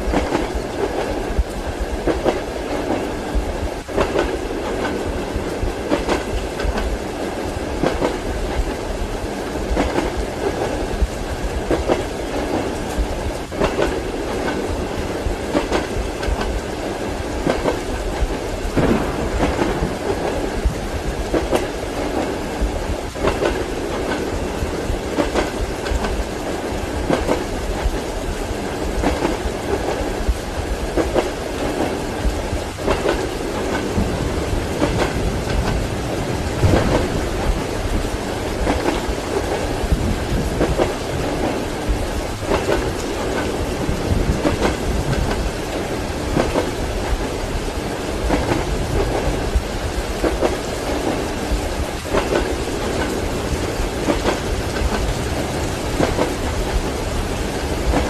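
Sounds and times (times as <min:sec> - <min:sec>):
train wheels clacking over rail joints: 0:00.0 - 0:28.1, 0:28.8 - 0:58.0
rain hissing: 0:00.0 - 0:58.0
train rolling rumble: 0:00.0 - 0:58.0.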